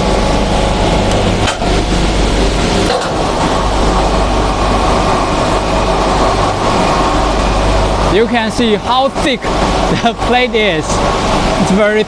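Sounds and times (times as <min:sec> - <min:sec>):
electric drives humming: 0:00.0 - 0:12.0.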